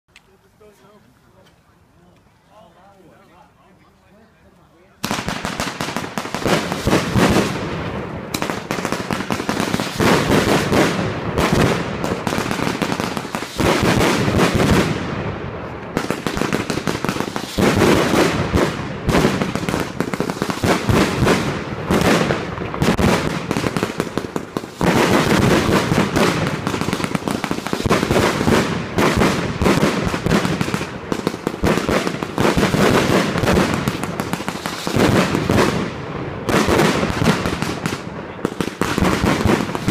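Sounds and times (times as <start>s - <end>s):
fireworks cracking and banging: 5.0s - 39.9s.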